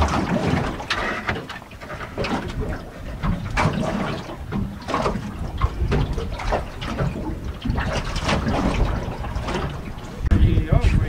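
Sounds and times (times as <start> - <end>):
water splashing against boat hull: 0.0 - 11.0
wind rumbling on microphone: 0.0 - 11.0.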